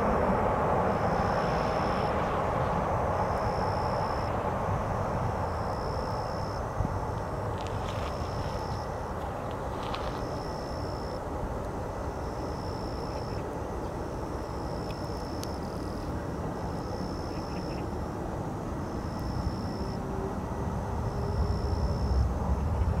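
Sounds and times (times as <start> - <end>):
distant airliner jet rumble: 0.0 - 23.0.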